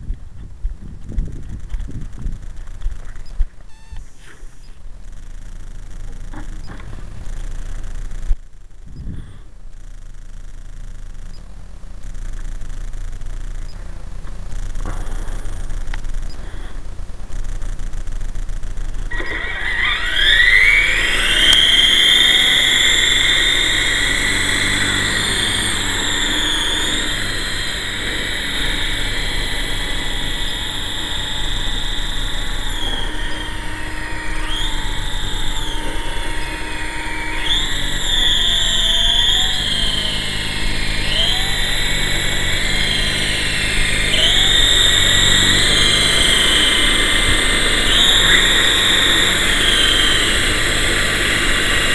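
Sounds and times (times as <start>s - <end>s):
rc helicopter motor whining: 0.0s - 51.9s.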